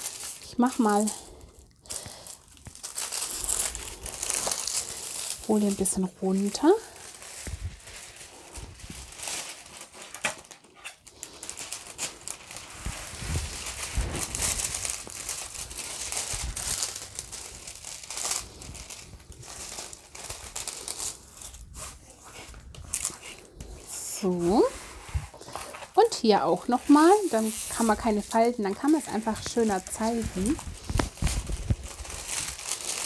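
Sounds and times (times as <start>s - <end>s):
plastic film crinkling: 0.0s - 33.0s.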